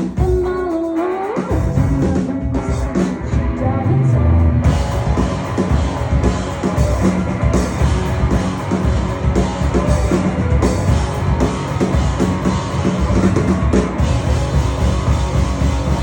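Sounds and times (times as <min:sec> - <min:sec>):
fast drumming on drum kit: 0:00.0 - 0:03.6, 0:04.6 - 0:16.0
rock band playing live: 0:00.0 - 0:16.0.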